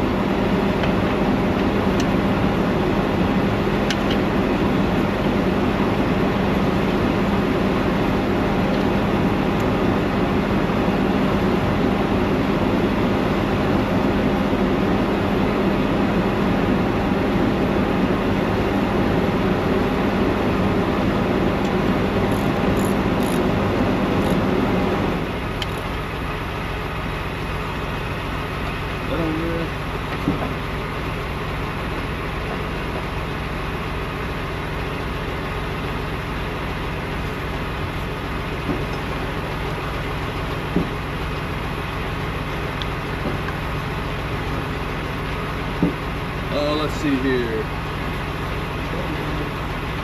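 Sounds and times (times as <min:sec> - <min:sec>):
diesel truck engine idling: 0:00.0 - 0:50.0.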